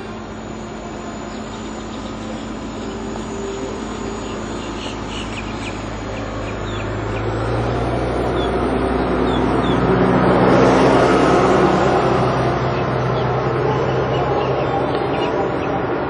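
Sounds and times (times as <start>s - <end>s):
engine rumble: 0.0s - 16.0s.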